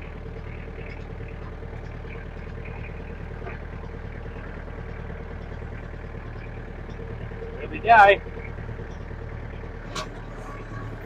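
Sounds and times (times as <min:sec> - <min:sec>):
ride-on mower engine running: 0:00.0 - 0:11.0.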